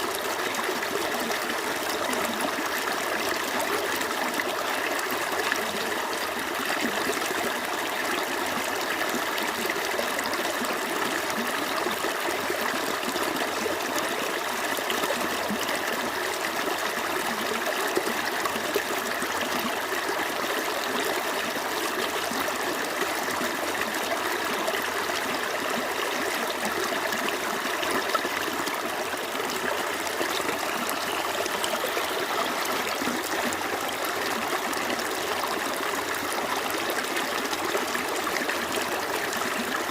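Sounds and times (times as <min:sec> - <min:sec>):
creek flowing over stones: 0:00.0 - 0:39.9.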